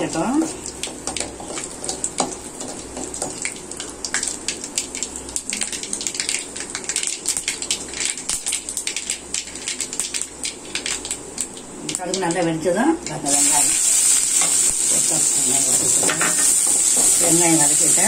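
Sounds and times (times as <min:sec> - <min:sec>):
oil sizzling: 0:00.0 - 0:18.0
seeds popping in hot oil: 0:00.0 - 0:18.0.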